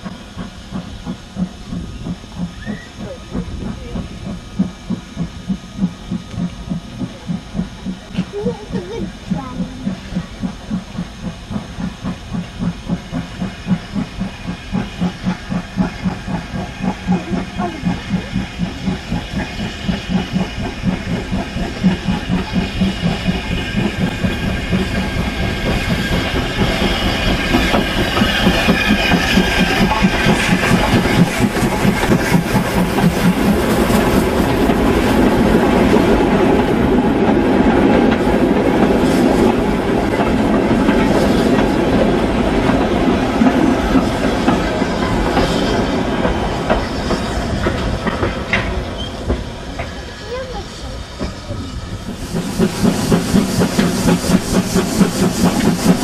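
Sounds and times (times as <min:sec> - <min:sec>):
hiss of steam: 0:00.0 - 0:56.0
steam locomotive chuffing: 0:00.0 - 0:56.0.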